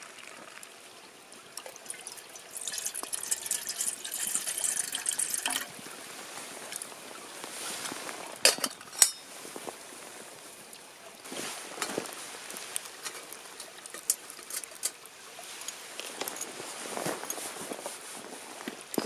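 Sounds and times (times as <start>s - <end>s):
soft steady hiss: 0.0s - 19.0s.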